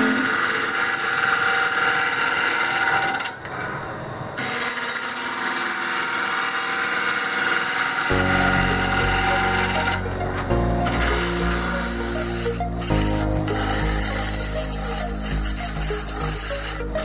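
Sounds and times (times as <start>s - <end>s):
lathe gouge shaving wood: 0.0s - 3.4s, 4.4s - 17.0s.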